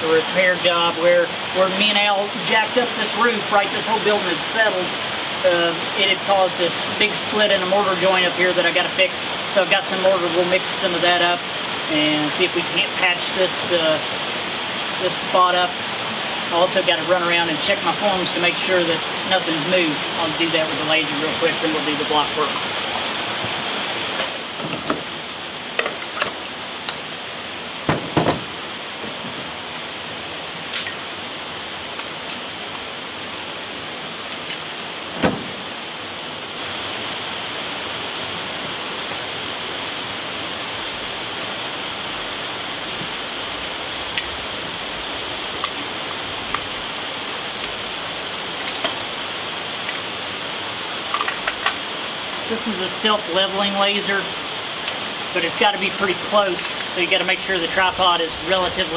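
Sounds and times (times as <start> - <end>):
stream rushing: 0.0 - 58.9.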